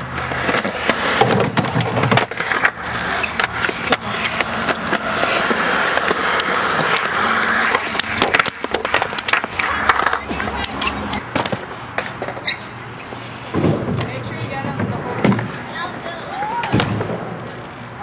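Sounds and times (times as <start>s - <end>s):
skateboard rolling on concrete: 0.0s - 18.0s
skateboard wheels clacking over joints: 0.0s - 18.0s
skateboard tail popping: 0.1s - 15.6s.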